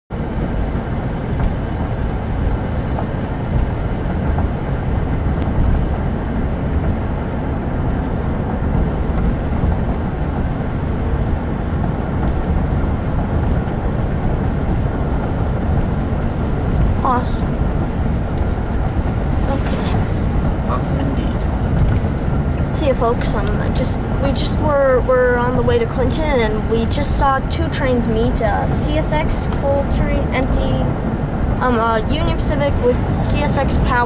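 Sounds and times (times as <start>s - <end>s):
car road and engine noise: 0.1s - 34.0s.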